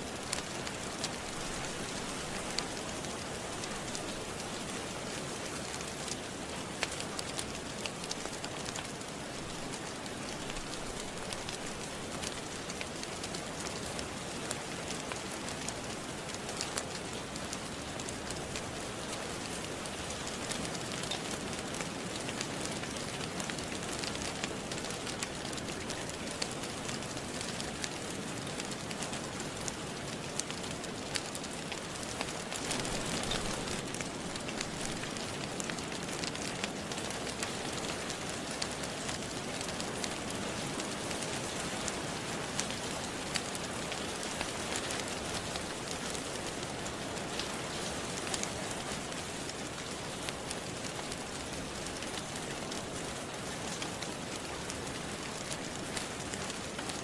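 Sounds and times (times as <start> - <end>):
steady rain falling: 0.0 - 57.0
wood fire crackling: 0.0 - 57.0.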